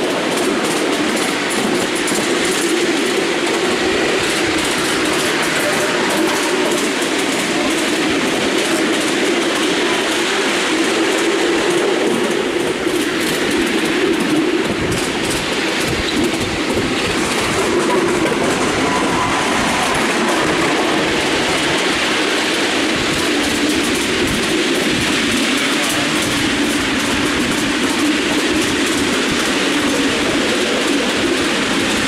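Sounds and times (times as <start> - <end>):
train wheels on rail: 0.0 - 32.0.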